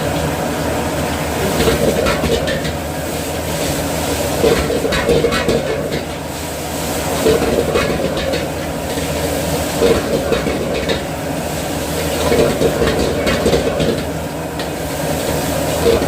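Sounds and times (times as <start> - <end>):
kitchen range roaring: 0.0 - 16.0
ladle clinking and scraping wok: 1.3 - 16.0.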